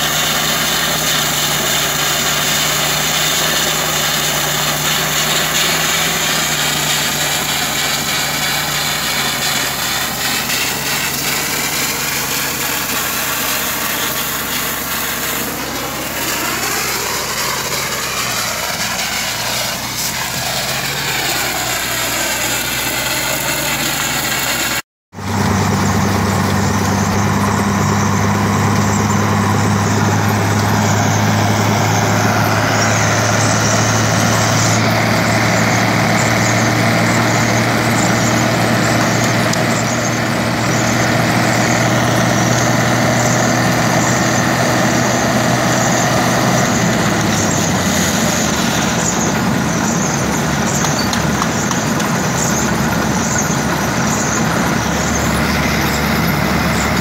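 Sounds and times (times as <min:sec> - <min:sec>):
engine running steadily: 0:00.0 - 0:57.0
heavier engine running low: 0:00.0 - 0:57.0.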